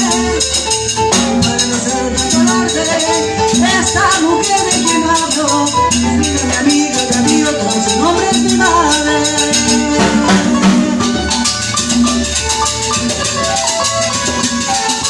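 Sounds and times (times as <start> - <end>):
acoustic guitar: 0.0 - 15.0
congas: 0.0 - 15.0
keyboard: 0.0 - 15.0.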